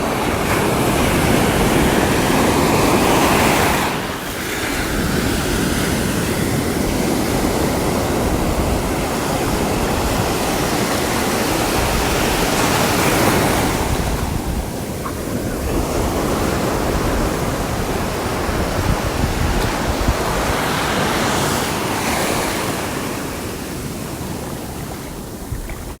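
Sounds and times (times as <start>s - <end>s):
sea waves breaking on shore: 0.0s - 26.0s
wind on microphone: 0.0s - 26.0s.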